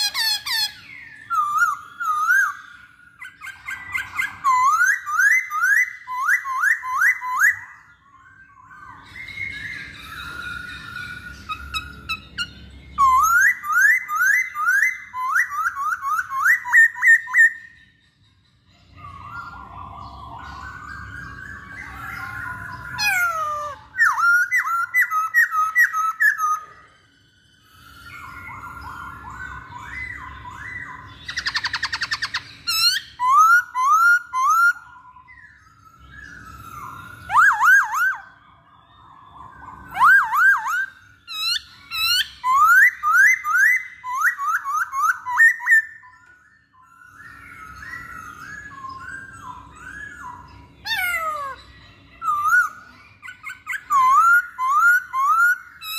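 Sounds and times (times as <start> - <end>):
bird singing whistled phrases: 0.0 - 55.9.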